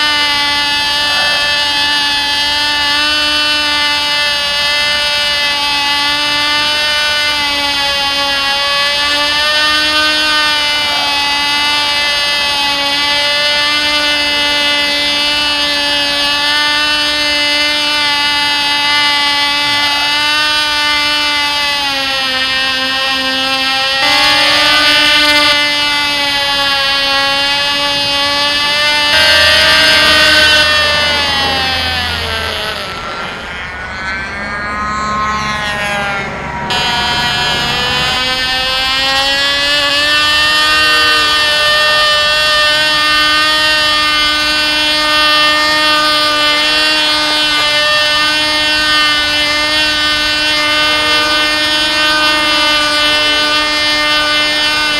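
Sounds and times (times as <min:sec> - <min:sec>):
model plane engine buzzing: 0:00.0 - 0:54.9.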